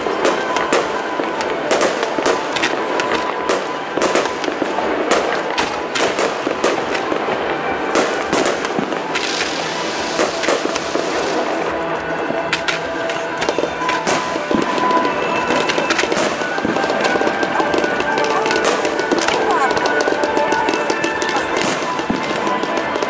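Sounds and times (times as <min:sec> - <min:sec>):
continuous crackling hiss: 0:00.0 - 0:23.0
fireworks pops and cracks: 0:00.0 - 0:23.0.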